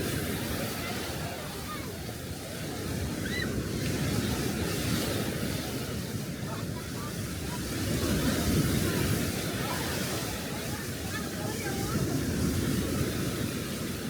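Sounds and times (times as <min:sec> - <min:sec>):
sea waves washing ashore: 0:00.0 - 0:14.0.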